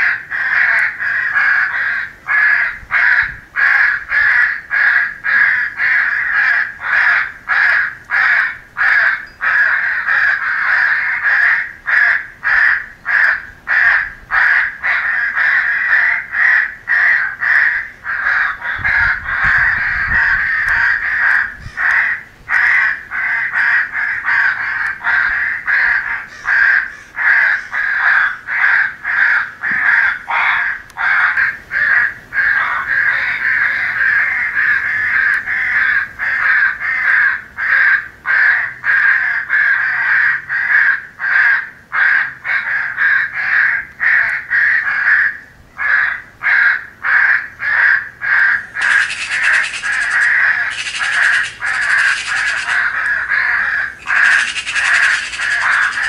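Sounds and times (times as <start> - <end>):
crows cawing: 0.0 - 56.0.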